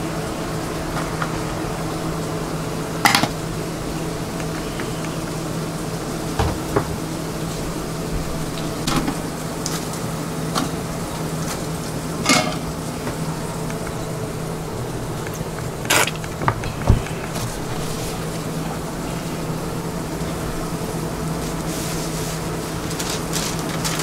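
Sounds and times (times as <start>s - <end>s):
kitchen equipment hum: 0.0s - 24.0s.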